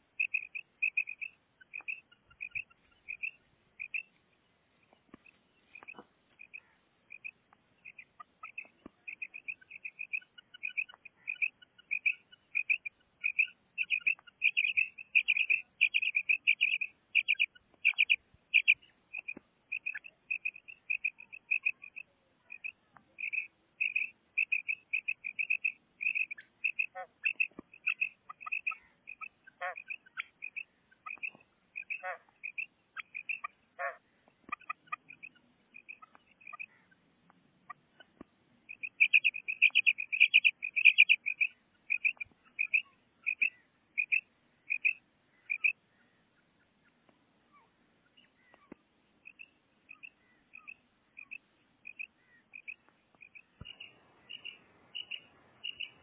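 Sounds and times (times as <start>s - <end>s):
quail calling: 0.0s - 4.2s, 5.2s - 37.0s, 37.6s - 46.7s, 47.6s - 56.0s.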